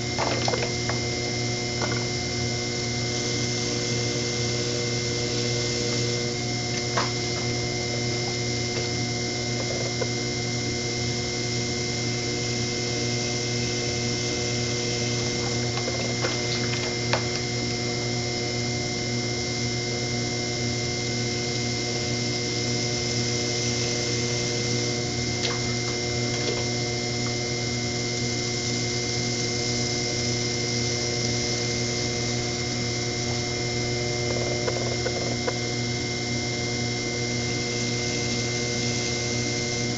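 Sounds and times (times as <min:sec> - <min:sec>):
potter's wheel motor humming: 0:00.0 - 0:39.9.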